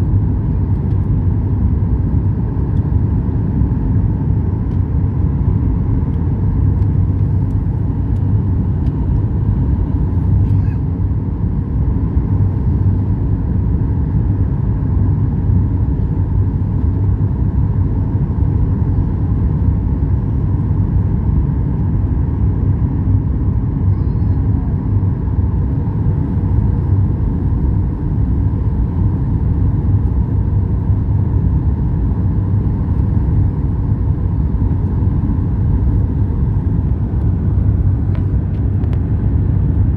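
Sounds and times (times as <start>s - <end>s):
airliner cabin rumble and hum: 0.0s - 39.9s.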